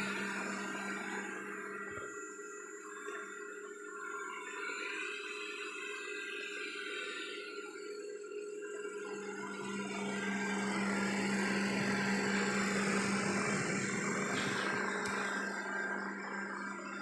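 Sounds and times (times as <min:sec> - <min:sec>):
robot vacuum cleaner running: 0:00.0 - 0:17.0.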